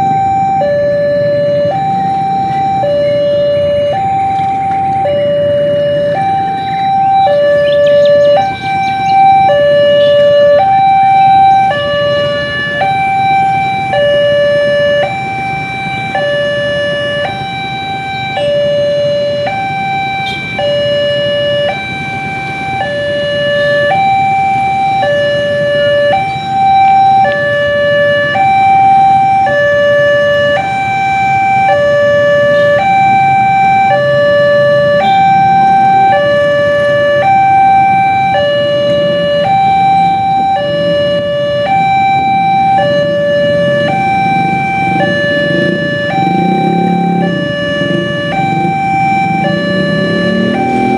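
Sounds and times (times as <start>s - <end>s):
electronic two-tone alarm: 0.0s - 50.9s.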